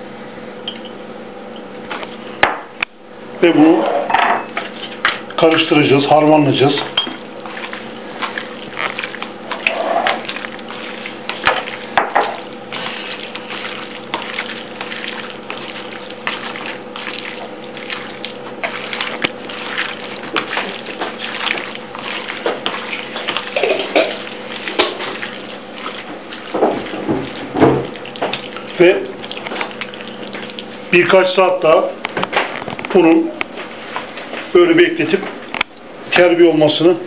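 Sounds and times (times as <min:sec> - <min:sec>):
wet squelches of kneading meat: 0:04.5 - 0:36.3.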